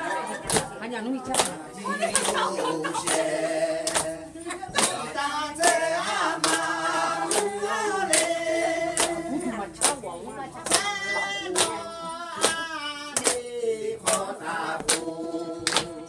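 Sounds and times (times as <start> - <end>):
women singing together: 0.0 - 16.0
hands clapping on a beat: 0.4 - 16.0.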